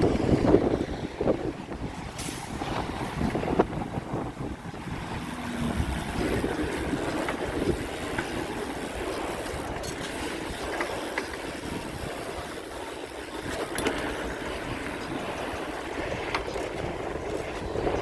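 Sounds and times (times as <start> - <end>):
bicycle tyres rolling: 0.0 - 18.0
wind noise: 0.0 - 18.0.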